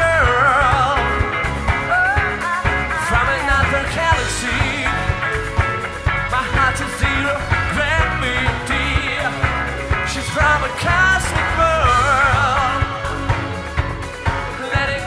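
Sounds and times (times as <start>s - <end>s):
bass guitar: 0.0s - 15.0s
drum kit: 0.0s - 15.0s
electric guitar: 0.0s - 15.0s
man singing: 0.0s - 15.0s.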